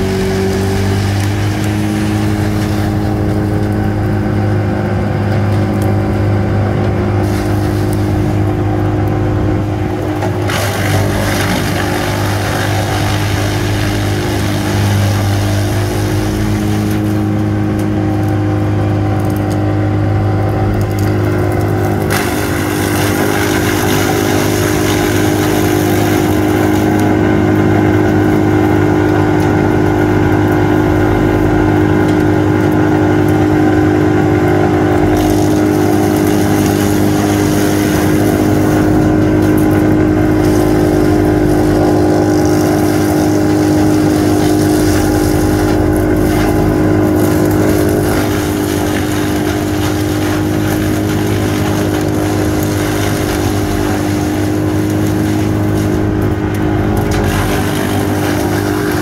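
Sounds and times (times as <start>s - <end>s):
wood chipper engine drone: 0.0s - 59.0s.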